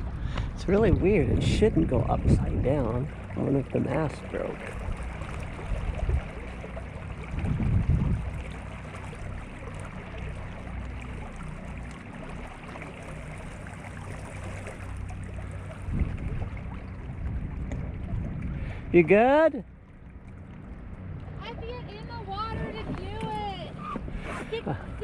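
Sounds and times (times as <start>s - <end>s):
water splashing around hulls: 0.0s - 25.0s.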